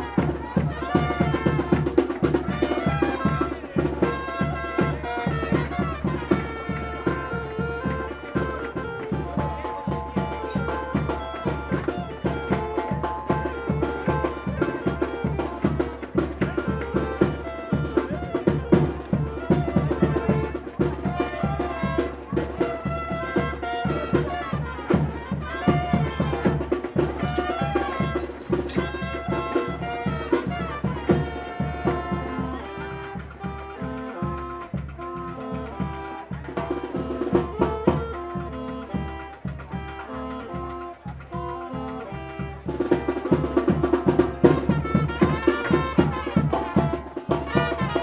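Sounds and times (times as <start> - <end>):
bass drum and snare beat: 0.0 - 48.0
brass band melody: 0.0 - 48.0.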